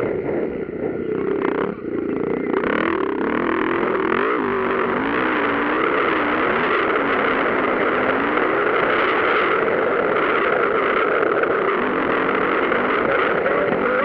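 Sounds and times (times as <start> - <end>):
motocross engines revving: 0.0 - 14.0.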